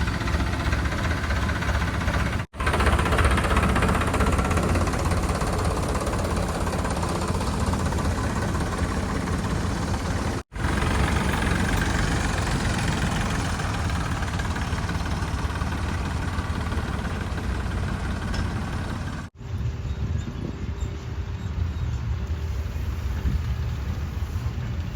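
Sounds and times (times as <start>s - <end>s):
heavy diesel machinery engines: 0.0s - 24.9s.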